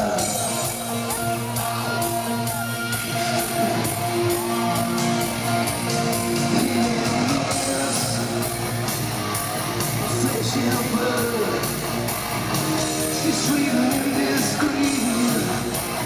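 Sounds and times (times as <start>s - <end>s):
distorted electric guitars: 0.0s - 16.0s
steady drum beat: 0.0s - 16.0s.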